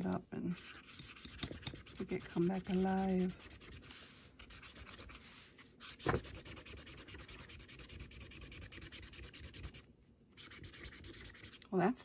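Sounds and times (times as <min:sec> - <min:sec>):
marker scribbling on paper: 0:00.6 - 0:09.8, 0:10.4 - 0:11.6.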